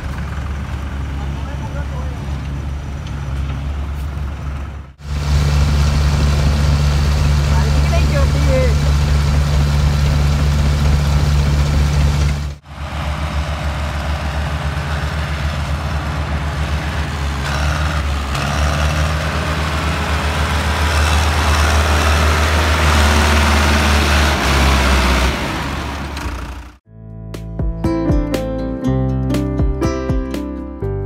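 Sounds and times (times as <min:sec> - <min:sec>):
heavy diesel engines running: 0:00.0 - 0:26.8
tractor diesel engine passing: 0:00.0 - 0:26.8.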